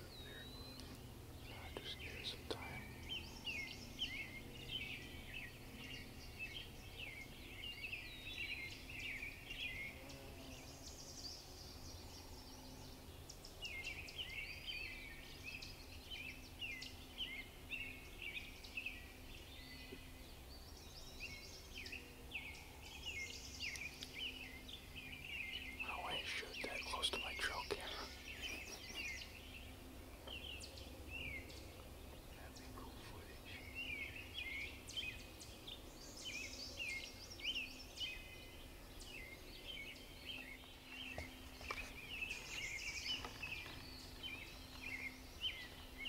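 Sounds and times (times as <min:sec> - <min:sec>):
songbirds chirping and trilling: 0:00.0 - 0:46.0.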